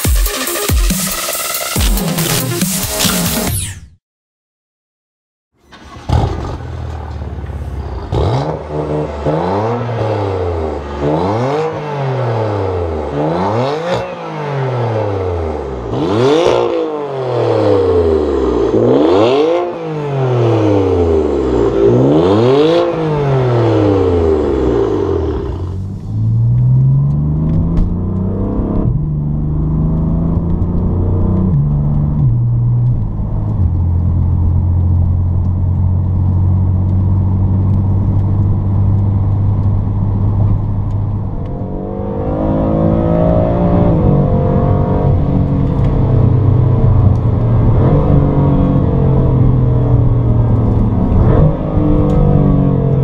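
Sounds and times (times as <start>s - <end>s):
car engine revving: 5.6s - 53.0s.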